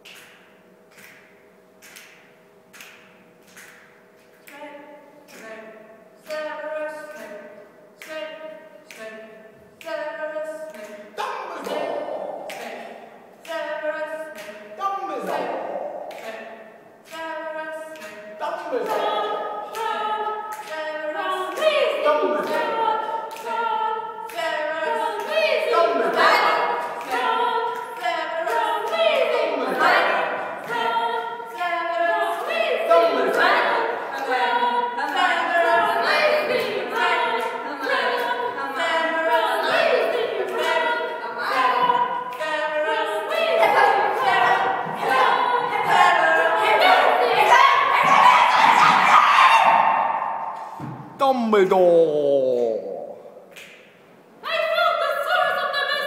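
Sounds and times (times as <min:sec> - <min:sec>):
voices singing a cappella: 0:04.4 - 0:53.7, 0:54.4 - 0:56.0.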